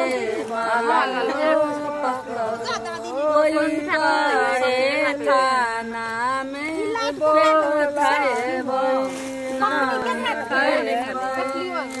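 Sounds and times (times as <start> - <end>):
women singing unaccompanied: 0.0 - 12.0.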